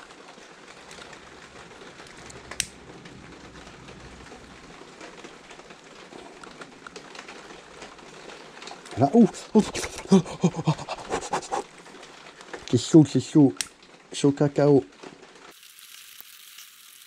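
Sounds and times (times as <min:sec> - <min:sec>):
low crackling noise: 0:00.0 - 0:17.0.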